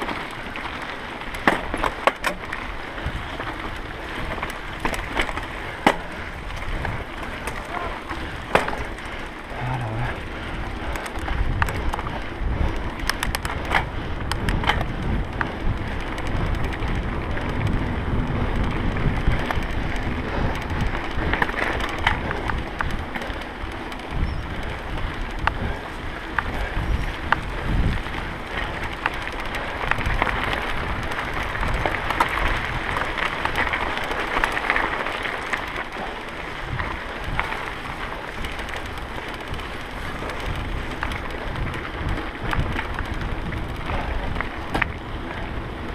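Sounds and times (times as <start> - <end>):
bike clicks and rattles: 0.0 - 45.9
bike tyres crunching on gravel: 0.0 - 45.9
wind buffeting microphone: 0.0 - 45.9.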